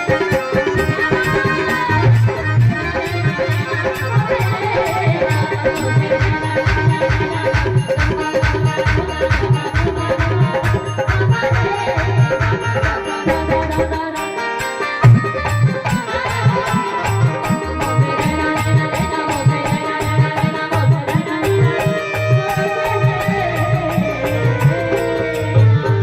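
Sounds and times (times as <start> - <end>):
dholak drum beat: 0.0 - 26.0
sustained melody line: 0.0 - 26.0.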